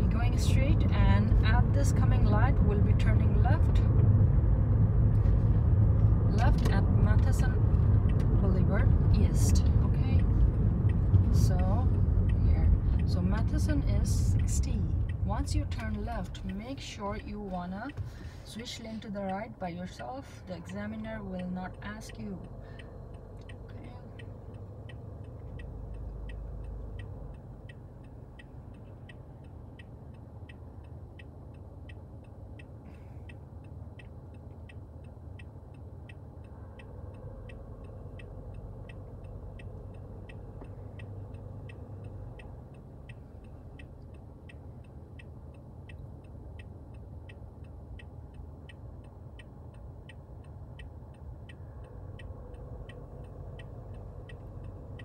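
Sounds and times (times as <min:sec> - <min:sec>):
car engine rumble: 0:00.0 - 0:55.0
turn signal ticking: 0:00.0 - 0:55.0.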